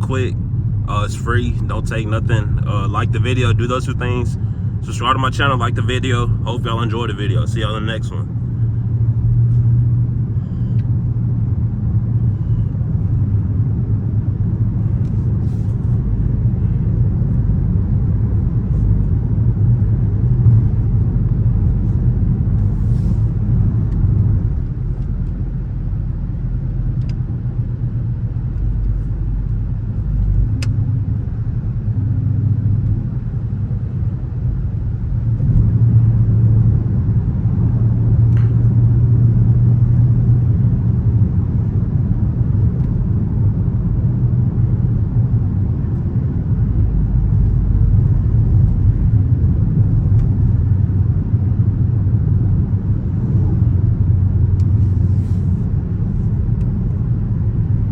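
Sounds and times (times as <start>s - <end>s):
car engine and exhaust drone: 0.0s - 57.9s.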